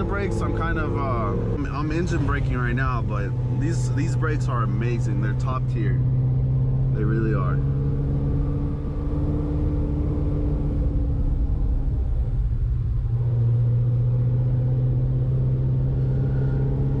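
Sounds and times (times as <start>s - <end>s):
car engine running from inside cabin: 0.0s - 17.0s.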